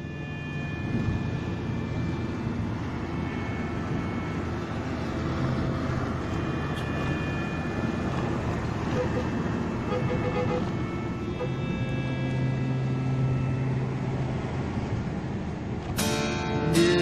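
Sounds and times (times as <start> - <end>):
faint whining tones: 0.0 - 16.6
ship engine rumble: 0.0 - 16.8.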